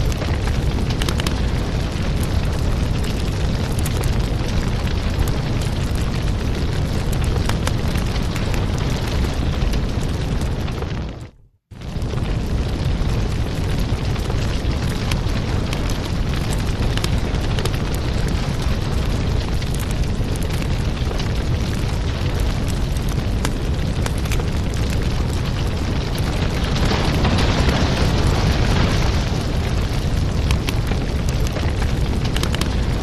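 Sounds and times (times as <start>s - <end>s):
low fire rumble: 0.0s - 33.0s
wood fire crackling and popping: 0.0s - 33.0s.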